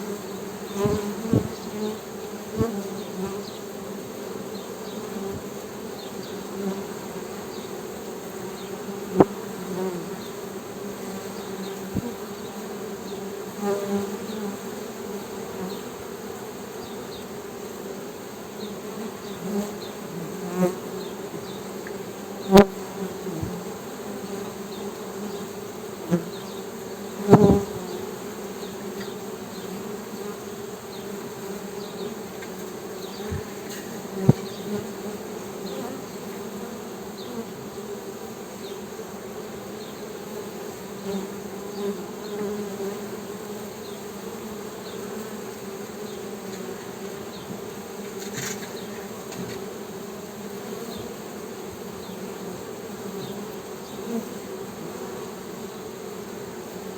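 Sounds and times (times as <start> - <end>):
honey bees buzzing: 0.0 - 56.9.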